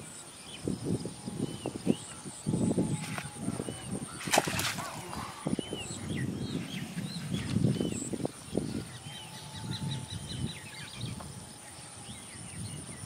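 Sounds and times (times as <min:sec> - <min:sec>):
gusty wind on microphone: 0:00.0 - 0:13.0
small birds chirping: 0:00.2 - 0:13.0.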